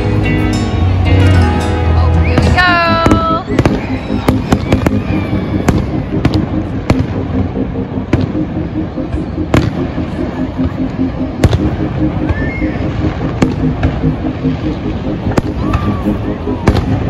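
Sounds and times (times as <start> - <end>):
continuous rumble: 0.0 - 17.0
fireworks bangs and cracks: 2.3 - 17.0.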